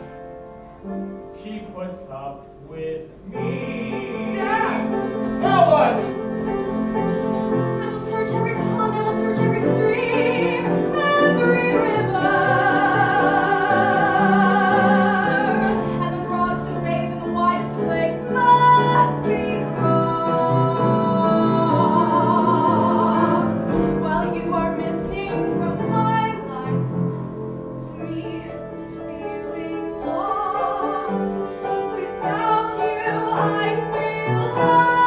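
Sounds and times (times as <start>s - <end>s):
instrumental accompaniment: 0.0s - 35.0s
person singing with vibrato: 1.4s - 35.0s.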